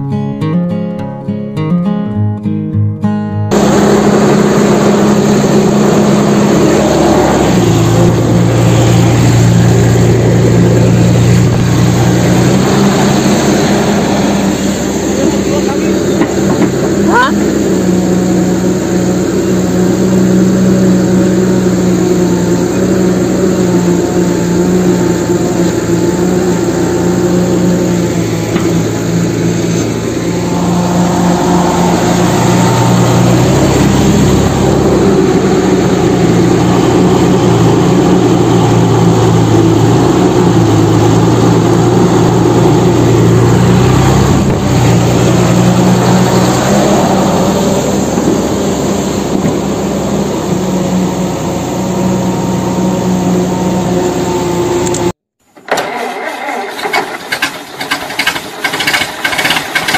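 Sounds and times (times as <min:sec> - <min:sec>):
engine running steadily: 0:03.5 - 0:59.9.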